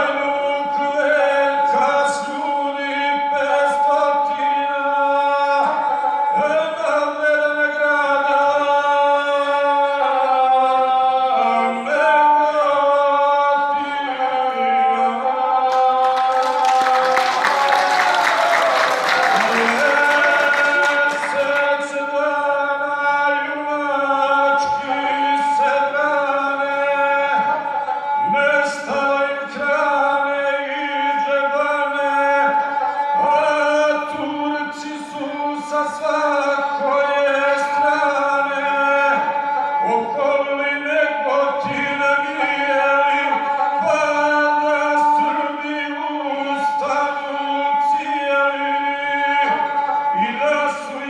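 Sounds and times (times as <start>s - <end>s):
bowed string instrument: 0.0s - 51.0s
man singing: 0.0s - 51.0s.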